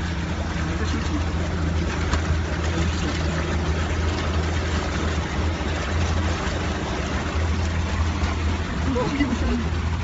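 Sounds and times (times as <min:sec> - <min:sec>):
car engine drone: 0:00.0 - 0:10.0
constant hiss of rain: 0:00.0 - 0:10.0.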